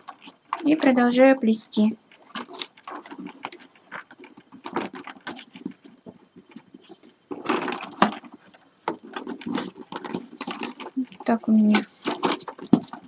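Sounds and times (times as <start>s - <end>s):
paper tubes rustling and scraping: 0.0s - 1.1s, 1.7s - 13.0s.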